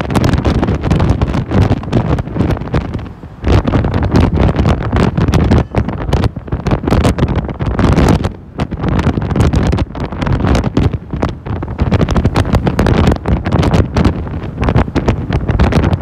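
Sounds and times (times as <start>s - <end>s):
gusty wind buffeting microphone: 0.0s - 16.0s
vehicle noise: 0.0s - 16.0s.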